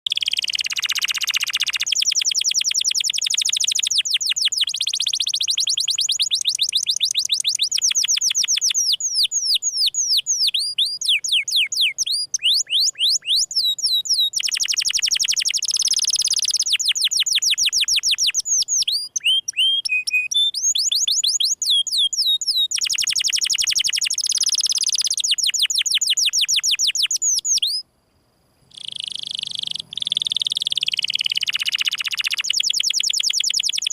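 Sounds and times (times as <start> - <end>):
canary singing trills: 0.1 - 27.8, 28.6 - 33.9.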